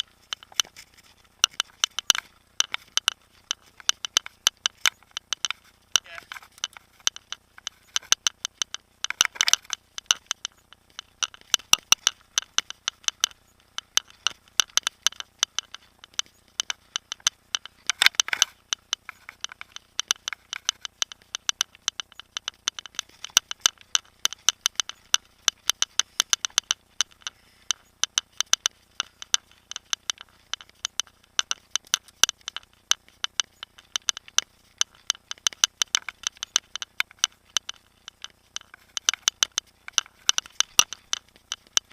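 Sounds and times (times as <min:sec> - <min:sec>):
mountain bike rattling: 0:00.0 - 0:41.9.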